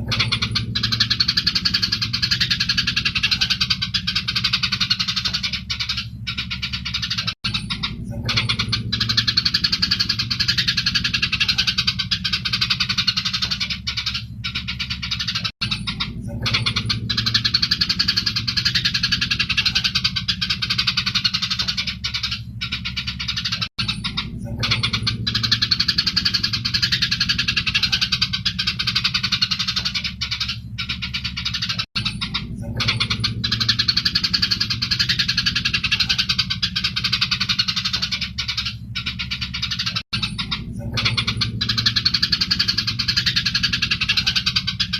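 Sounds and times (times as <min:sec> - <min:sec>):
low steady hum: 0:00.0 - 0:44.9
sparrows chattering: 0:00.0 - 0:44.9.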